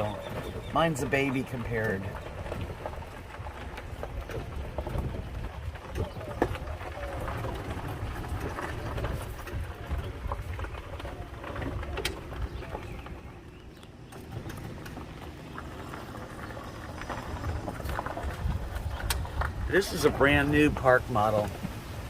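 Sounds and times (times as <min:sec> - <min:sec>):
low rumble: 0:00.1 - 0:20.8.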